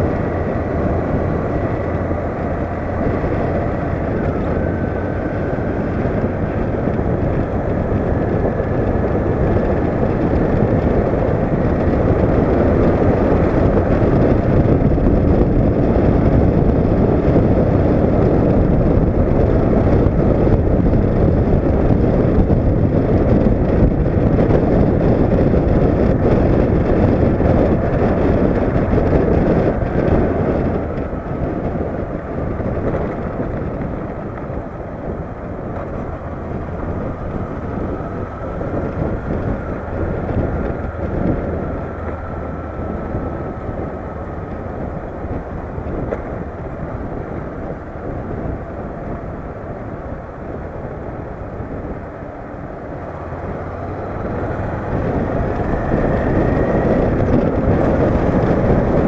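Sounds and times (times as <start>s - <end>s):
motorcycle engine: 0.0s - 59.0s
wind buffeting microphone: 0.0s - 59.0s.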